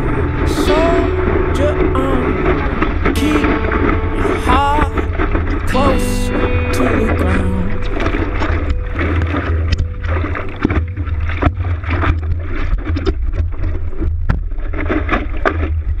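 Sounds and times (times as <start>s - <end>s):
water splashing around paddleboard: 0.0s - 16.0s.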